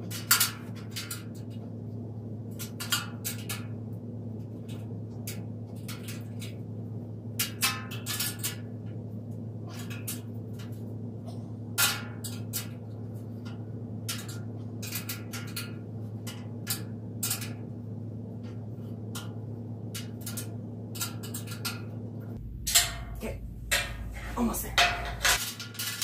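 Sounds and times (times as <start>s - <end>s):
low hum: 3.3s - 25.4s.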